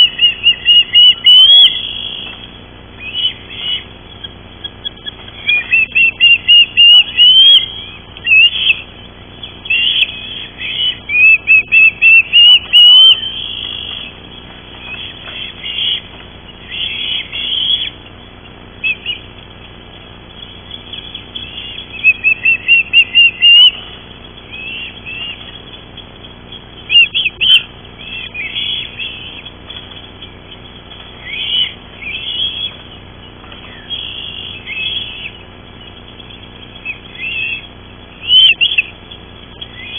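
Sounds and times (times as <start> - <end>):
ospreys calling: 0.0 - 39.9.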